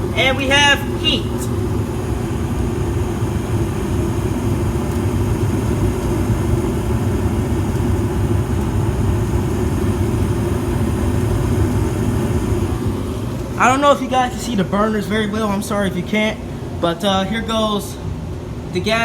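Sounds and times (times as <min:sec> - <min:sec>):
gas furnace rumbling: 0:00.0 - 0:19.0.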